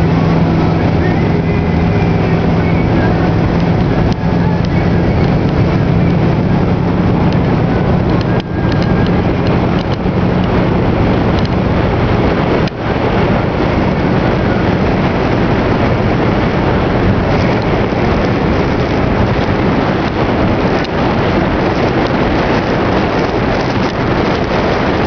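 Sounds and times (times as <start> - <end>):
motorboat engine humming: 0.0 - 25.0
rushing water: 0.0 - 25.0
wind buffeting microphone: 0.0 - 25.0.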